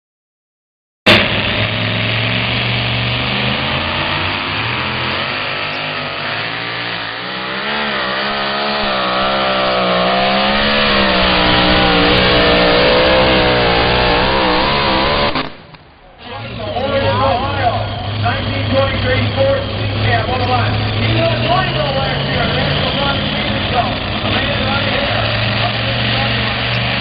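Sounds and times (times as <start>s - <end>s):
truck engine at high revs: 1.1s - 27.0s.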